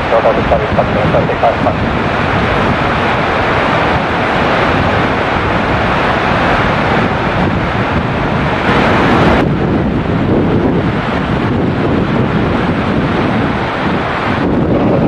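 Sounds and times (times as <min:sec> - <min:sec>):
heavy rain: 0:00.0 - 0:15.0
wind buffeting the microphone: 0:00.0 - 0:15.0.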